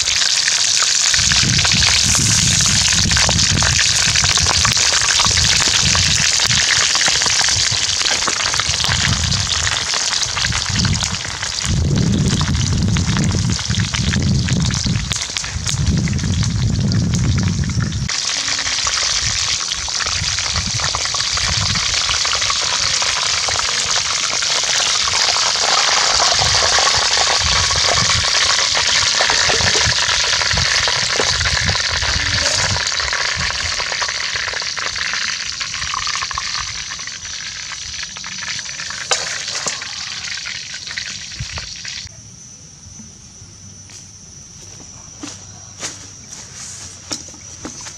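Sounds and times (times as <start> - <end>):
hot oil sizzling and crackling: 0.0 - 42.1.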